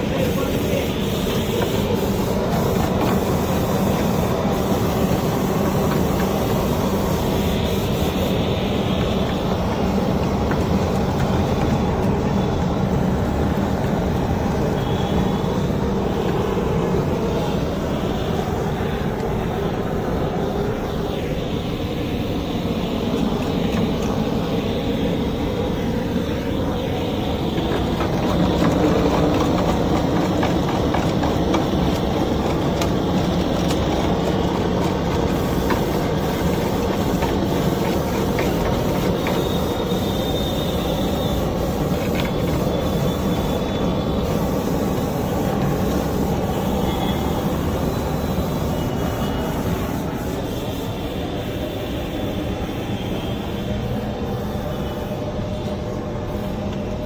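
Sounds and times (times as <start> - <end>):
blowtorch flame hissing: 0.0 - 47.4.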